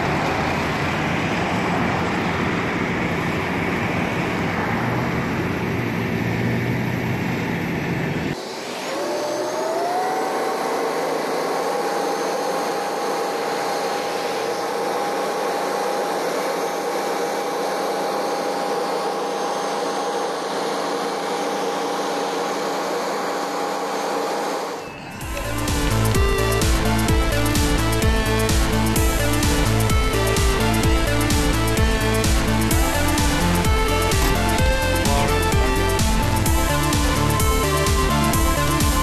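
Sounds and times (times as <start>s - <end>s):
crane engine rumble: 0.0s - 8.4s, 9.5s - 39.0s
rising whine: 0.0s - 39.0s.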